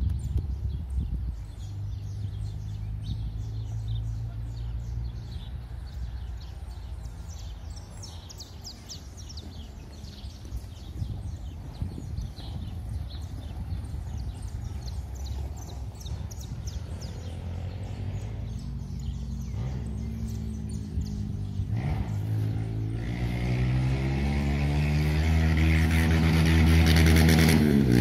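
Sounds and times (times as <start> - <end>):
birds chirping and calling: 0.0 - 28.0.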